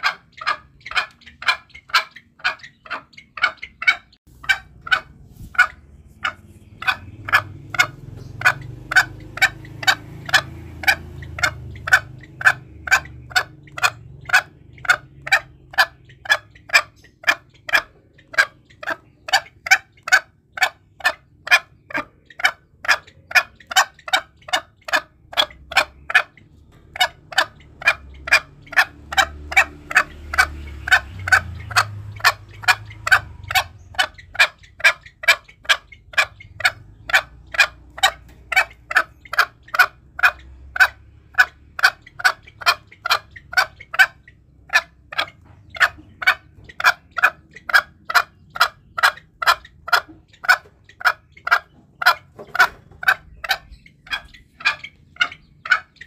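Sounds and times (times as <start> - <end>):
junglefowl clucking: 0.0 - 56.0.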